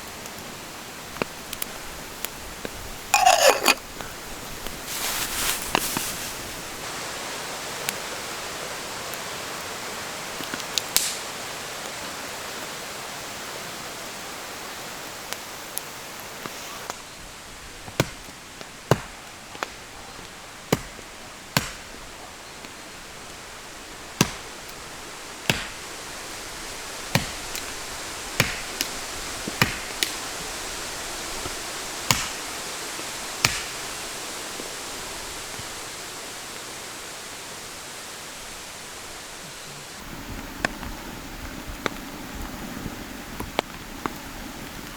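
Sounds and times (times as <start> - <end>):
rain in a forest: 0.0 - 3.2, 3.8 - 44.9.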